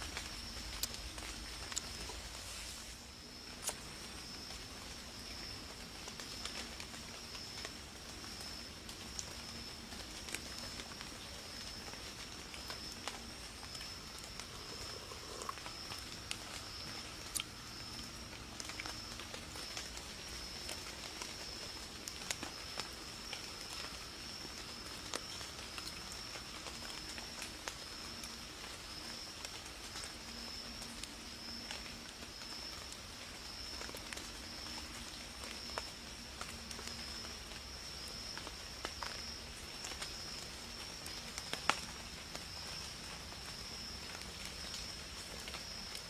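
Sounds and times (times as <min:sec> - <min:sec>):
night insects chorus: 0:00.0 - 0:46.0.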